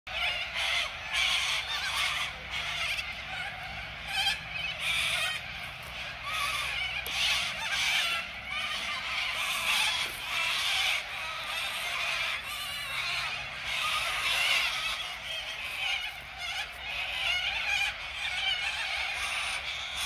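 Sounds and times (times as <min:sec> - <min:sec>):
flock of birds calling: 0:00.1 - 0:20.0.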